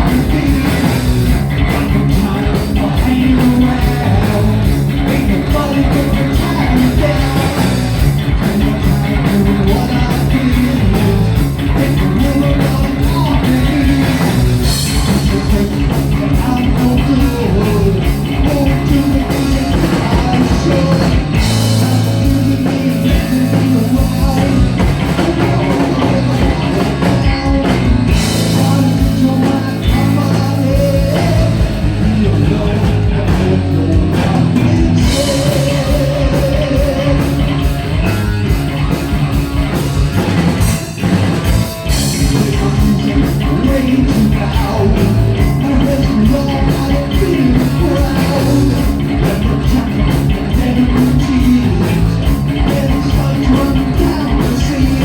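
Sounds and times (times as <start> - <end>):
heavy metal band playing: 0.0 - 55.0.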